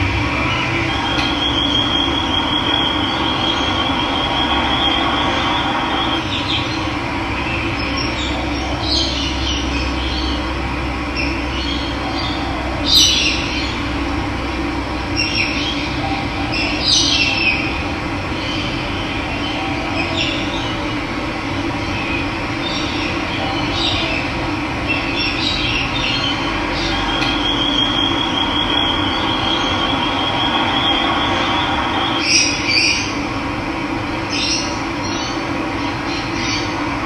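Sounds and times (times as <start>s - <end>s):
birds chirping: 0.2s - 13.9s, 15.1s - 33.3s.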